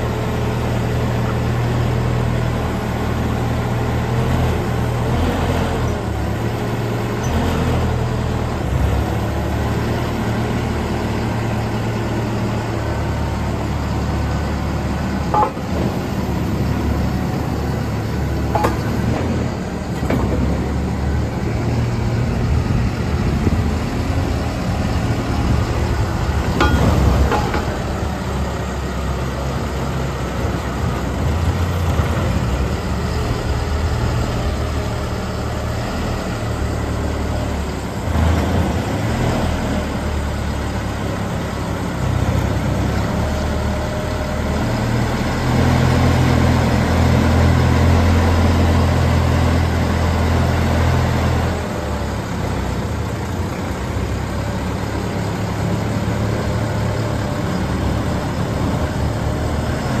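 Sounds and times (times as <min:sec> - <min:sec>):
diesel engine idling: 0:00.0 - 1:00.0.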